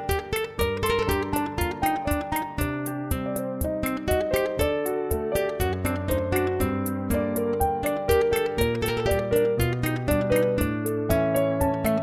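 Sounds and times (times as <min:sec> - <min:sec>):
plucked-string background music: 0:00.0 - 0:12.0.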